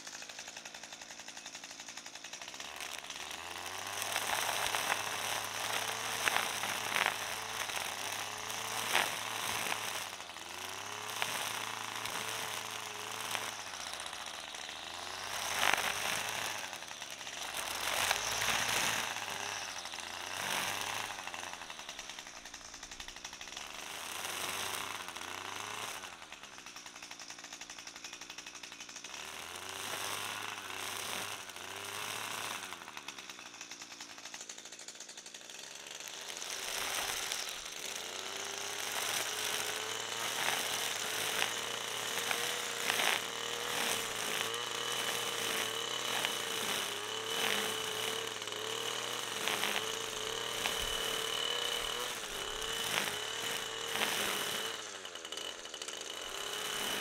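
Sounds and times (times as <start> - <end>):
string trimmer whine: 0.0 - 57.0.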